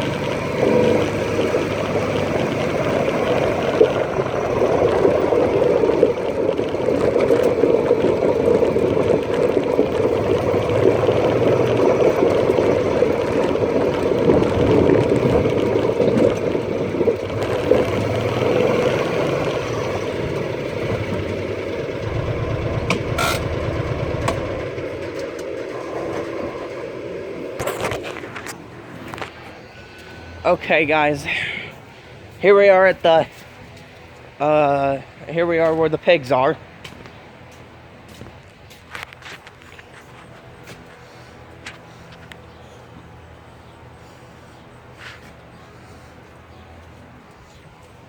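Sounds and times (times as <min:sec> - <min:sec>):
vehicle engine rumbling: 0:00.0 - 0:48.0.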